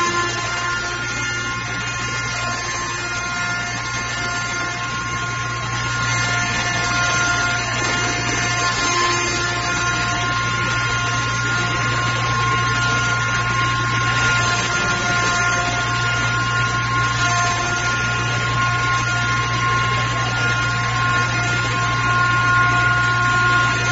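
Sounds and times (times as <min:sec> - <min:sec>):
grinder humming with high whine: 0:00.0 - 0:23.9.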